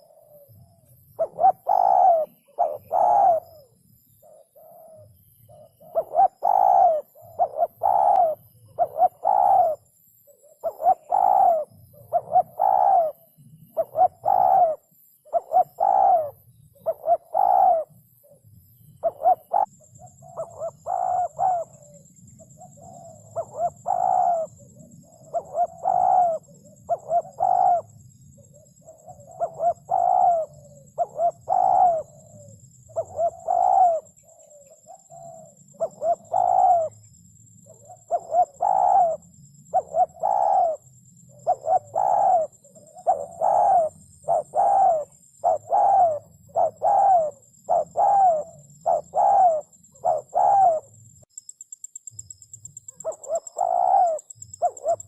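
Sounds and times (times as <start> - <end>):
dove cooing: 0.0 - 51.0, 52.8 - 55.0.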